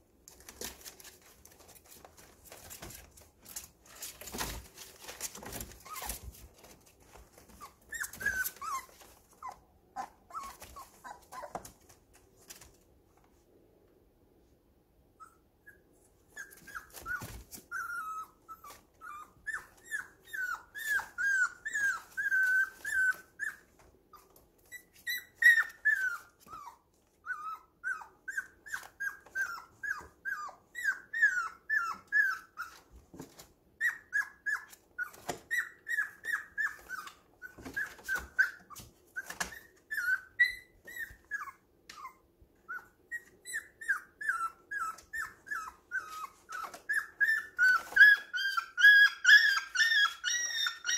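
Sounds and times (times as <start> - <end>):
puppy whimpering: 1.8 - 12.0, 15.1 - 50.9.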